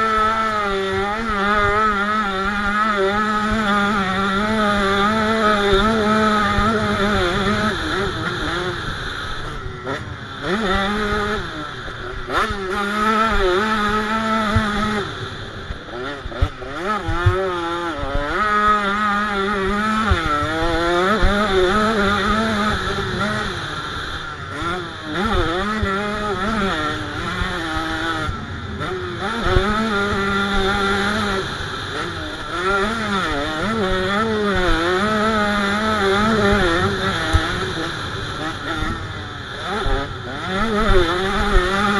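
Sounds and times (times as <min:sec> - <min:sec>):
two-stroke engine revving: 0:00.0 - 0:41.9.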